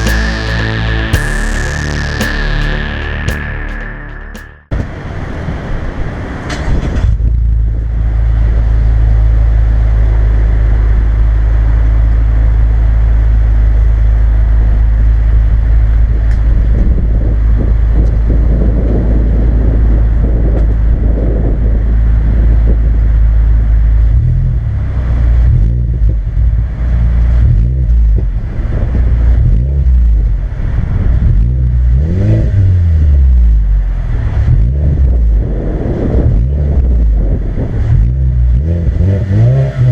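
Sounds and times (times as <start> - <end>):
car engine idling and revving: 6.6 - 39.9.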